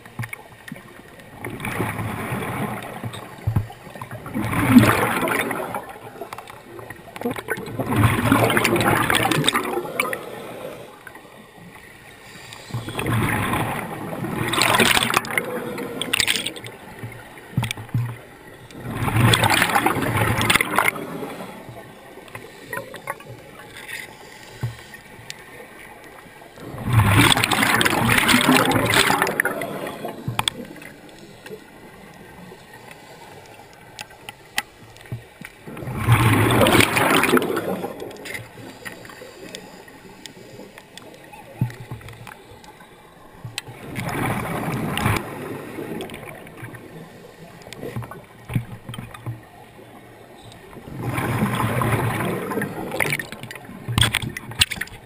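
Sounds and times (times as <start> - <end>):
faint clicks: 0.0 - 1.9, 5.1 - 7.7, 10.9 - 13.8, 14.5 - 26.6, 27.2 - 35.9, 36.5 - 55.0
underwater exhaled bubbles gurgling: 0.0 - 55.0.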